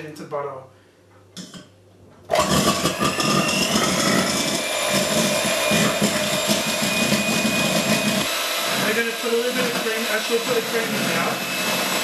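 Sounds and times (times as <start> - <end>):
electric hand mixer whipping cream: 2.3 - 12.0.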